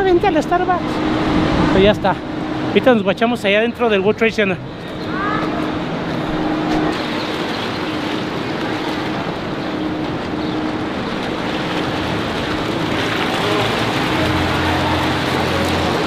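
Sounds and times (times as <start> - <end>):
road traffic rushing: 0.0 - 16.0.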